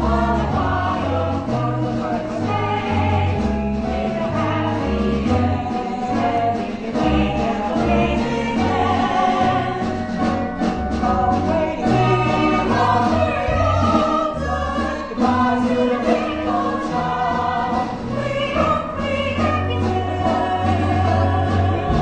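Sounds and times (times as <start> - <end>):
group of voices singing: 0.0 - 22.0
instrumental accompaniment: 0.0 - 22.0
steady drum beat: 0.0 - 22.0.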